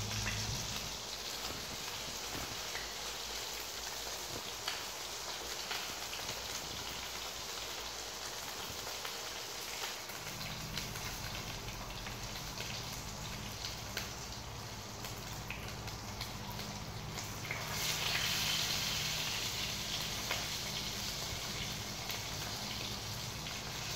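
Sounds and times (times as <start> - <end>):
meat sizzling in a frying pan: 0.0 - 23.9.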